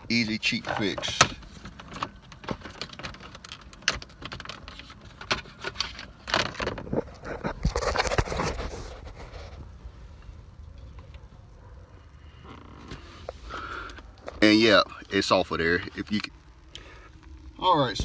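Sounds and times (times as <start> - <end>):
plastic scraping and rustling: 0.0 - 11.7, 12.3 - 16.6.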